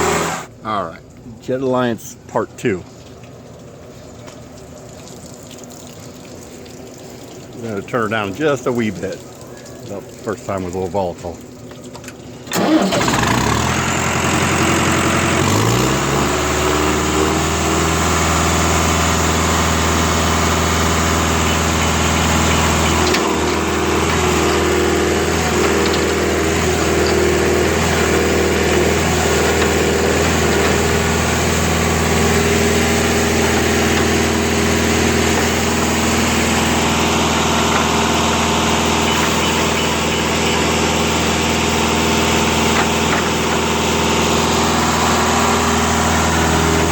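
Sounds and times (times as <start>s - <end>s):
pump engine running: 0.0s - 0.5s, 2.8s - 46.9s.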